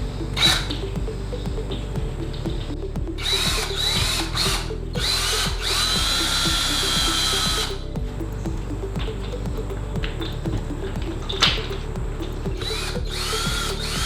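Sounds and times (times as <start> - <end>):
music with a steady beat: 0.0 - 14.0.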